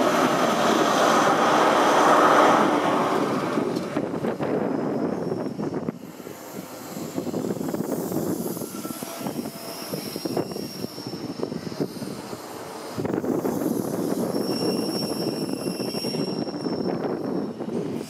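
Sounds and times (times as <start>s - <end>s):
diesel locomotive engine: 0.0s - 18.0s
train wheels rumbling on track: 0.0s - 18.0s.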